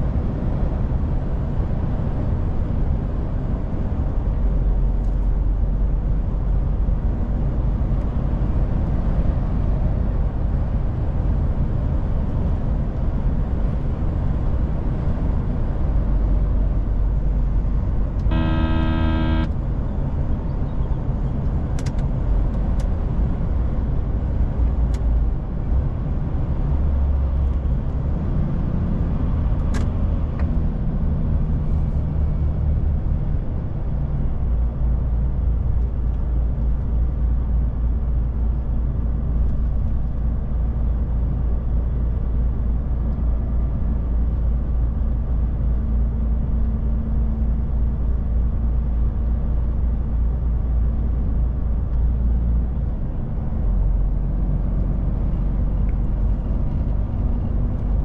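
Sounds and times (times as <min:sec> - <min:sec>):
road noise: 0:00.0 - 0:58.0
truck diesel engine drone: 0:00.0 - 0:58.0.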